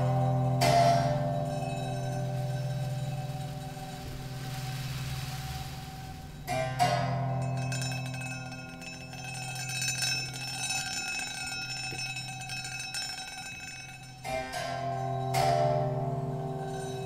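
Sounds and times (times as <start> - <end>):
metal percussion ringing: 0.0 - 17.0.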